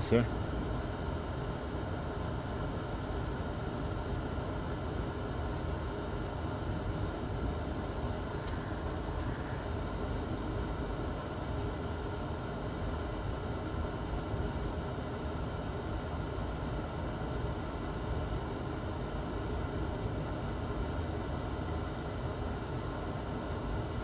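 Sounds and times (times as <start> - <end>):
fan running: 0.0 - 24.0.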